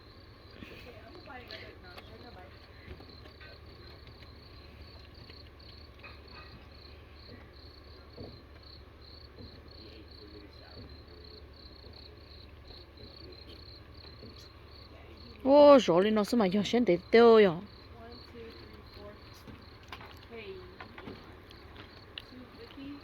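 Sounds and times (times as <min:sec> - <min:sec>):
cricket chirping: 0:00.0 - 0:23.0
low steady hum: 0:00.0 - 0:23.0.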